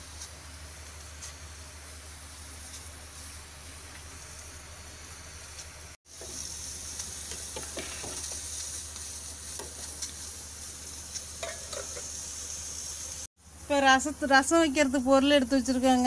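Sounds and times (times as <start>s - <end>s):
gas stove hiss: 0.0s - 16.0s.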